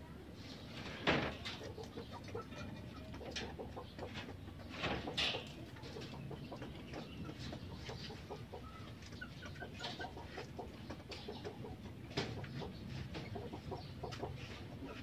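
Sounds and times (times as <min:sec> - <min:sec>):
chickens clucking: 0:00.2 - 0:15.0.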